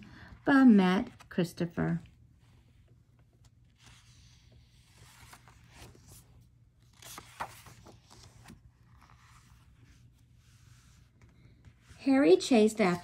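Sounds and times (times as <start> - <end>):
book pages turning: 0.9 - 13.0.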